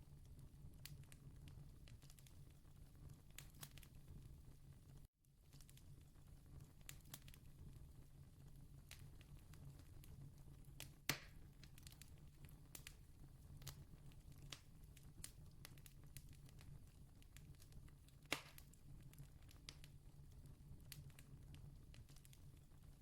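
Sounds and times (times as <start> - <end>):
campfire crackling: 0.2 - 4.2, 5.4 - 23.0.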